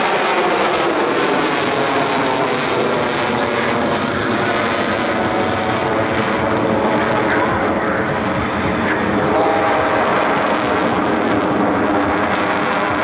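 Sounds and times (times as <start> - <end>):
jets passing overhead: 0.0 - 13.0.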